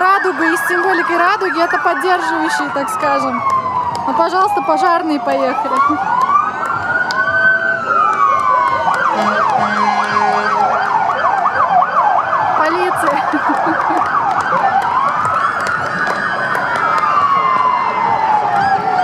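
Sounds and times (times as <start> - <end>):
emergency vehicle sirens wailing: 0.0 - 19.0.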